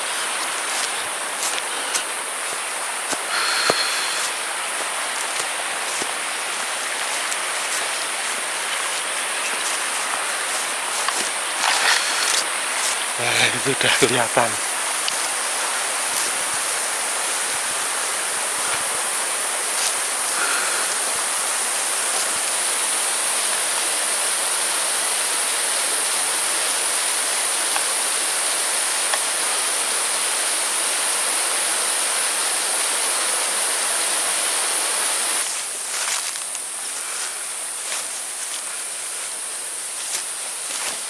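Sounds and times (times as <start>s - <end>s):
waterfall rushing water: 0.0s - 35.5s.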